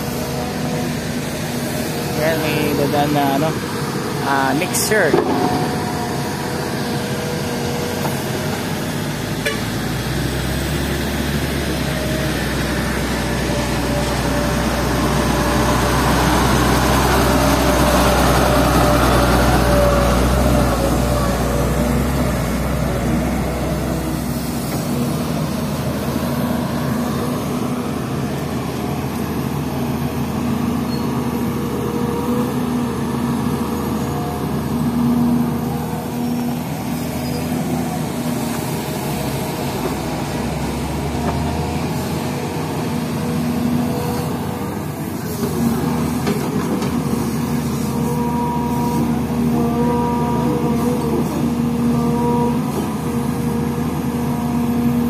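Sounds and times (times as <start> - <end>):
excavator diesel engine running: 0.0 - 55.0
truck driving past: 0.0 - 55.0.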